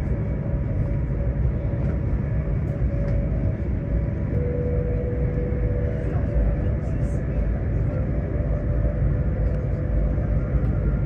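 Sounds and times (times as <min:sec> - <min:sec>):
faint steady whine: 0:00.0 - 0:11.0
train cabin rumble: 0:00.0 - 0:11.0.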